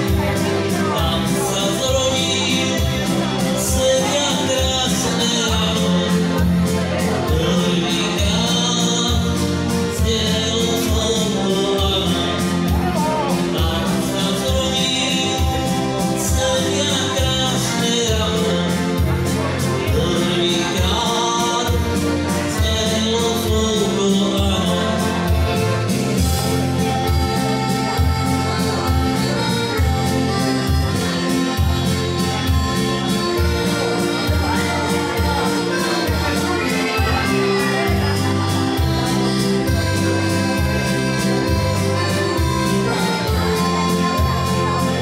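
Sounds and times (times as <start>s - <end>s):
keyboard dance music: 0.0s - 45.0s
steady bass beat: 0.0s - 45.0s.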